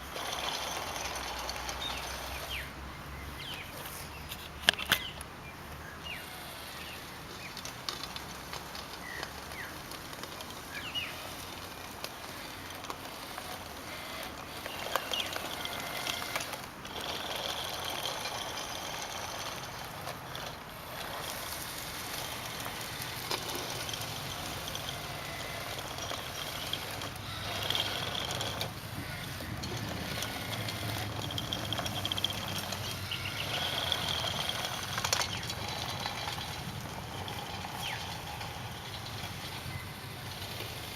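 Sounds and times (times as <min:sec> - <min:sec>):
small electric motors whining: 0:00.0 - 0:40.9
steady noisy background: 0:00.0 - 0:40.9
scattered clicks: 0:07.3 - 0:40.9.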